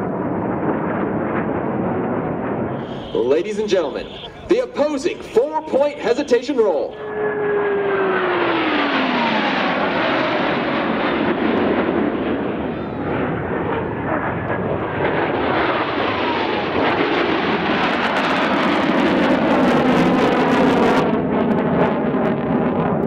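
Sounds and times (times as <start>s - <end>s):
jet whine falling in pitch: 0.0s - 23.0s
jets flying low roaring: 0.0s - 23.0s.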